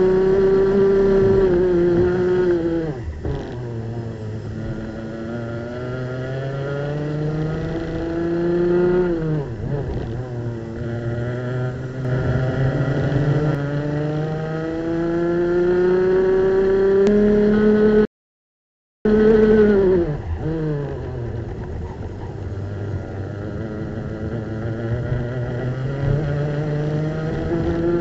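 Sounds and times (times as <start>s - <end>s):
kart engine revving: 0.0s - 18.1s, 19.1s - 28.0s.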